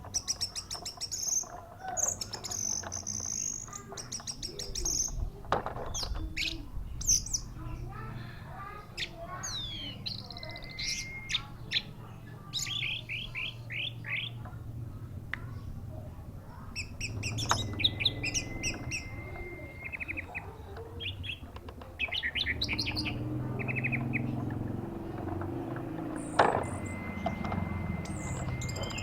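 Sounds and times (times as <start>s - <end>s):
bird chirping and trilling: 0.0s - 14.6s, 15.4s - 29.0s
low background rumble: 0.0s - 29.0s.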